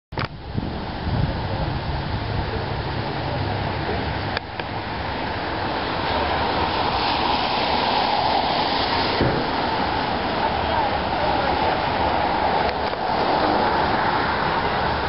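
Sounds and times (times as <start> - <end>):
traffic on wet pavement: 0.1 - 15.0.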